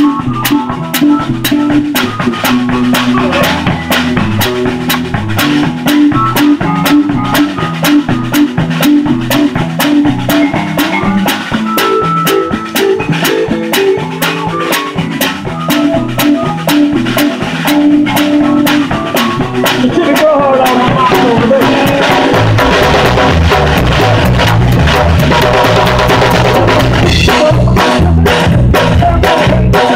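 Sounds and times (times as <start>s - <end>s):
bass line: 0.0s - 29.9s
bending guitar notes: 0.0s - 29.9s
live rock band: 0.0s - 29.9s.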